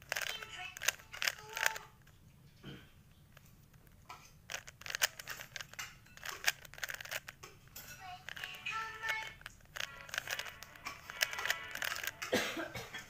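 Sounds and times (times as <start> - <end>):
puzzle cube clicking: 0.0 - 2.1, 3.3 - 12.3.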